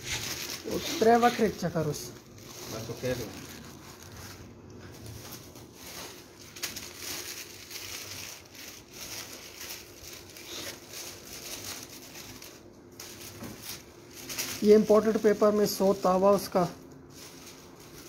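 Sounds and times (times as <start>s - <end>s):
kite sails rustling and crinkling: 2.3s - 16.5s, 17.1s - 18.0s.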